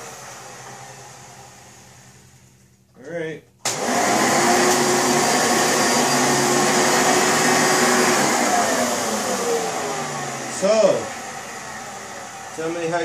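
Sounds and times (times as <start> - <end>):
vacuum cleaner running: 0.0 - 2.5, 3.6 - 13.0.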